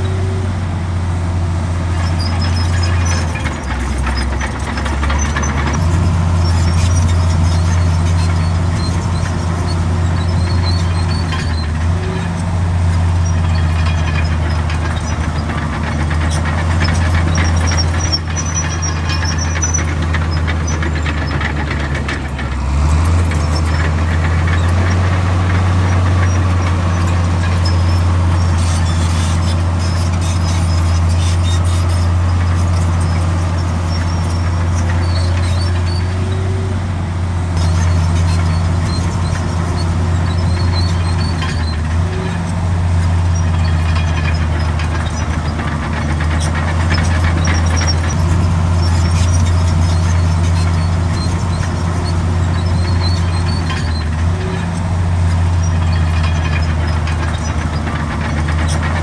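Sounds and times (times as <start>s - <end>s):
bulldozer diesel engine humming: 0.0s - 59.0s
steel tracks squeaking and clanking: 1.8s - 59.0s.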